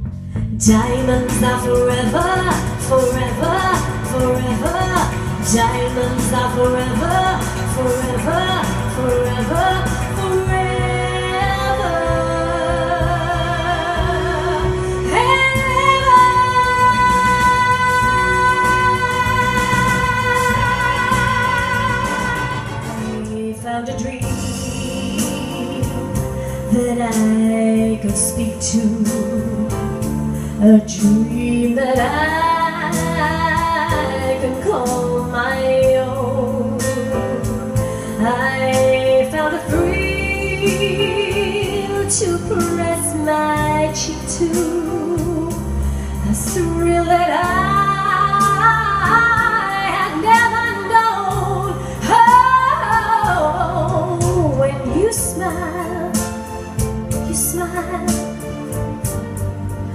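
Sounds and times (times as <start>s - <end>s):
backing music with bass and beat: 0.0s - 23.4s, 24.2s - 59.9s
woman singing into microphone: 0.6s - 58.6s.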